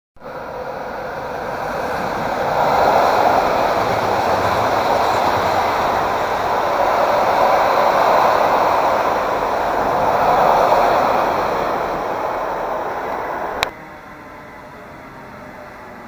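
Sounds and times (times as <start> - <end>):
train wheels rolling on track: 0.2 - 13.7.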